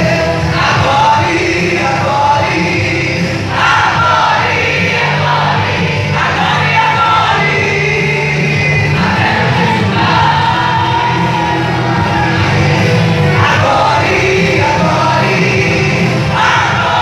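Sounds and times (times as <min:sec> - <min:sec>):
group of young voices singing: 0:00.0 - 0:17.0
live instrumental accompaniment: 0:00.0 - 0:17.0.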